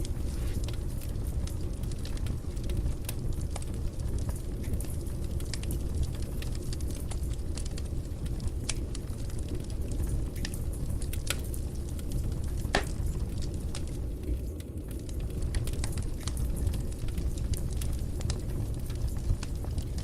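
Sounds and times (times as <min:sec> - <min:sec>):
fire crackling and popping: 0:00.0 - 0:20.0
flames rushing: 0:00.0 - 0:20.0.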